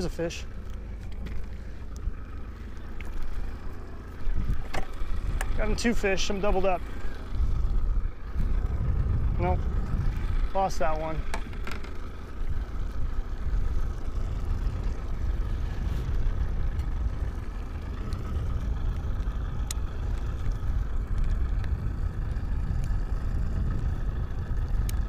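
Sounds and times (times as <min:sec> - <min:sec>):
boat engine low rumble: 0:00.0 - 0:25.0.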